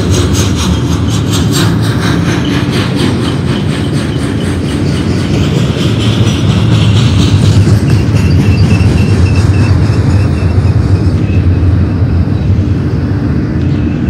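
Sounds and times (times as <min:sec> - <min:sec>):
steel wheels rumbling on rails: 0:00.0 - 0:14.0
train trucks clicking and clattering: 0:00.0 - 0:14.0.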